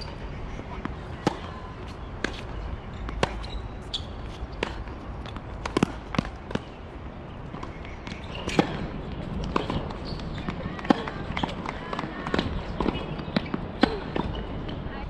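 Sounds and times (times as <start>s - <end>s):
tennis balls struck and bouncing: 0.6s - 6.8s, 7.4s - 14.8s.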